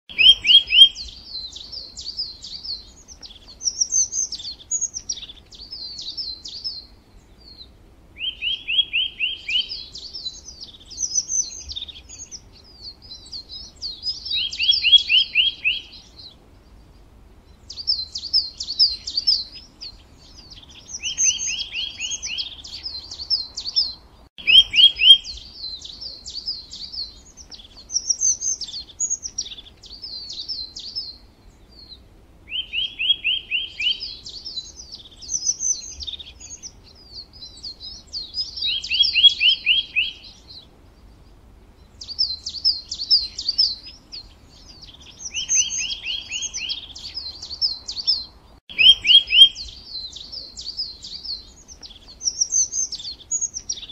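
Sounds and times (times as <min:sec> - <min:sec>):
songbird trilling and twittering: 0:00.1 - 0:53.9.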